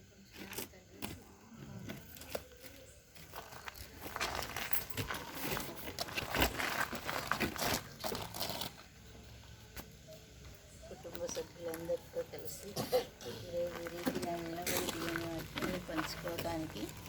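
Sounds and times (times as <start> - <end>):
rustling and crinkling at microphone: 0.3 - 9.1, 11.0 - 17.0.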